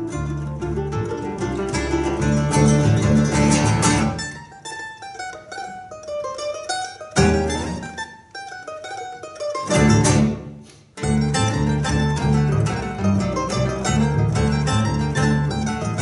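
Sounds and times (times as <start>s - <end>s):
mandolin solo run: 0.0s - 16.0s.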